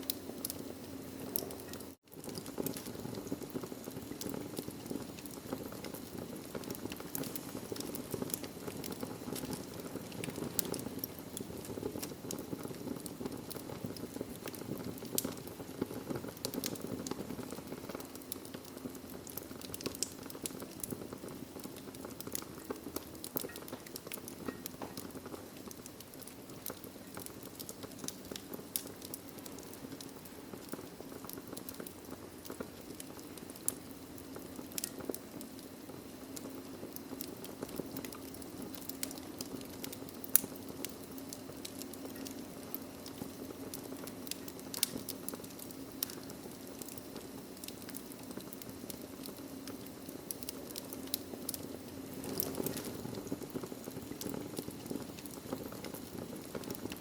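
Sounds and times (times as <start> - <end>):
low rush of flames: 0.0 - 57.0
wood fire pops and snaps: 0.0 - 57.0.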